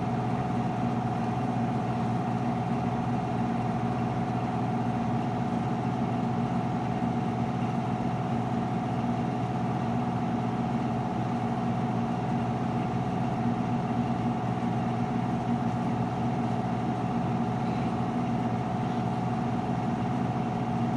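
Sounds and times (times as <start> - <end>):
washing machine spinning: 0.0 - 20.9.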